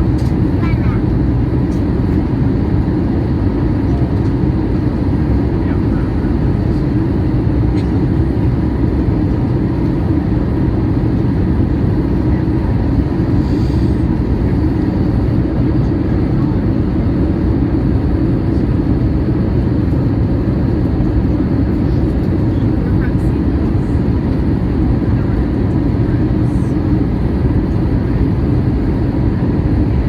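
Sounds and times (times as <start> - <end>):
airplane cabin airflow rush: 0.0 - 30.0
jet engines: 0.0 - 30.0.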